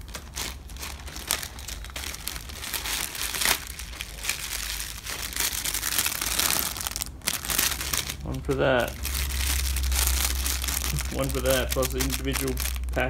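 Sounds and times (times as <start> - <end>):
paper booklets rustling: 0.0 - 13.0
plastic packets crinkling: 0.0 - 13.0.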